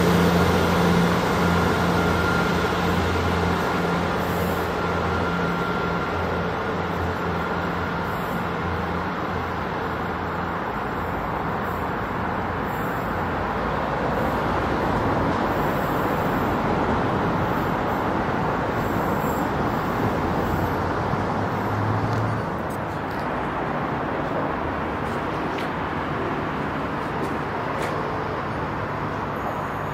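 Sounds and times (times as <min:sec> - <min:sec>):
outdoor rushing noise: 0:00.0 - 0:29.9.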